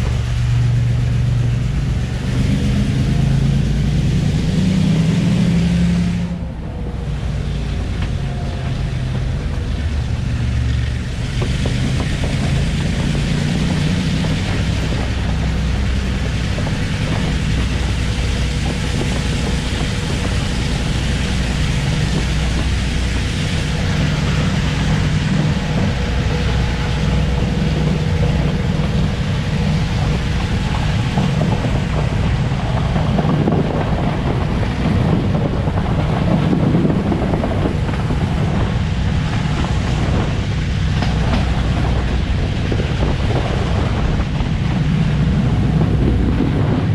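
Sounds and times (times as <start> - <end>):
train wheels rumbling on track: 0.0 - 46.9
wind buffeting microphone: 0.0 - 46.9.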